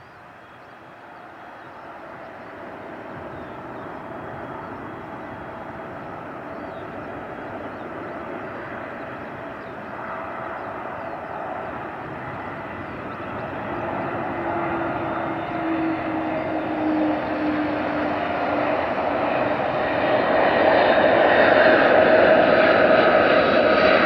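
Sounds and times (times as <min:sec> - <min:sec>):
jet engine roar: 0:00.1 - 0:24.0
steady engine tone: 0:02.6 - 0:23.6.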